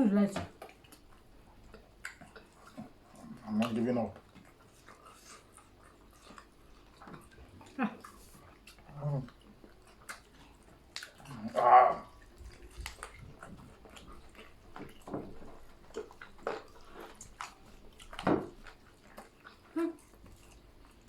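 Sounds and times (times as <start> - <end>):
people chewing food: 0.0 - 21.0.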